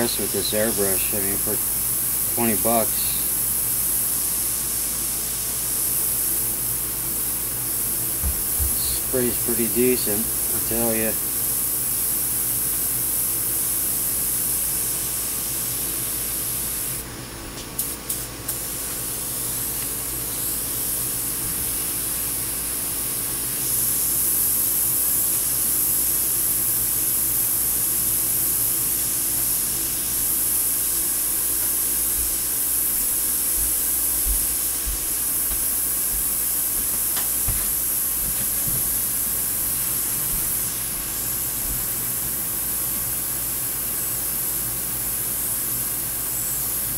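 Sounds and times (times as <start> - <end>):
airbrush spraying hiss: 0.0 - 46.9
steady low hum: 0.0 - 46.9.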